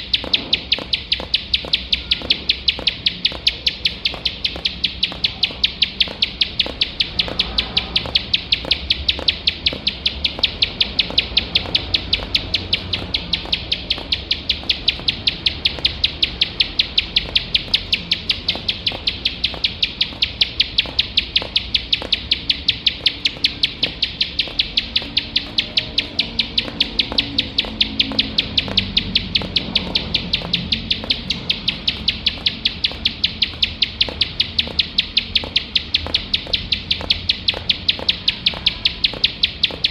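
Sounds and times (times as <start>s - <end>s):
bird singing sharp ticking notes: 0.0s - 39.9s.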